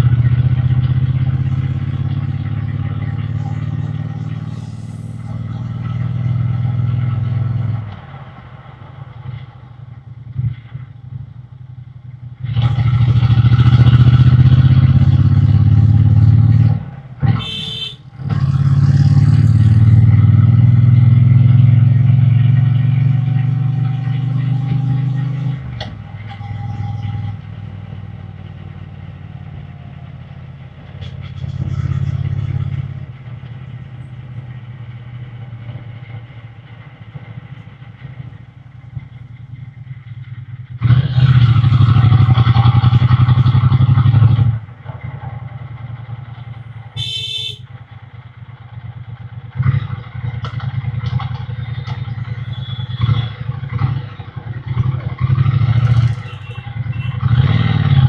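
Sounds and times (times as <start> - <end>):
motorcycle engine revving: 0.0 - 8.0, 12.4 - 38.0, 39.0 - 58.0.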